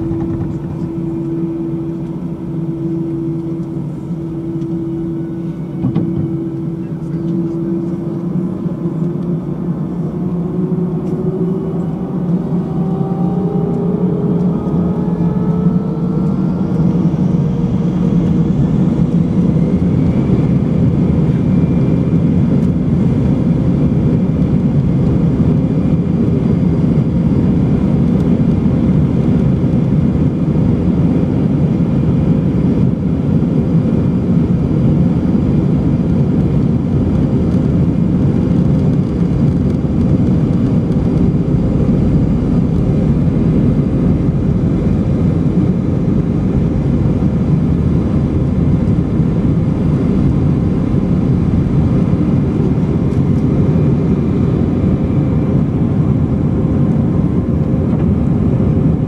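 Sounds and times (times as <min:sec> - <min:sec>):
jet engines from inside cabin: 0:00.0 - 0:59.0.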